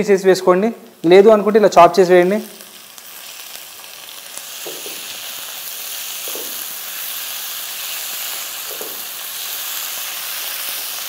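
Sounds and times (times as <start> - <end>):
tomatoes sizzling in hot oil: 1.0 - 11.0.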